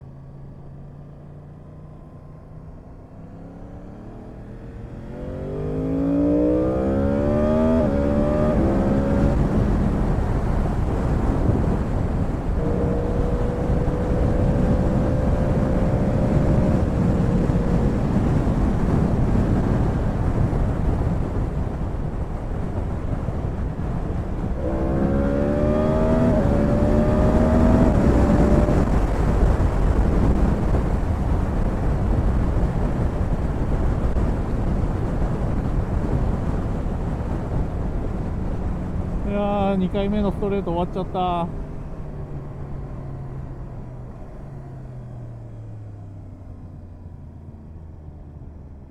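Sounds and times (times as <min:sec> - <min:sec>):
motorcycle engine at full throttle: 0:00.0 - 0:48.9
rush of wind: 0:02.3 - 0:48.9.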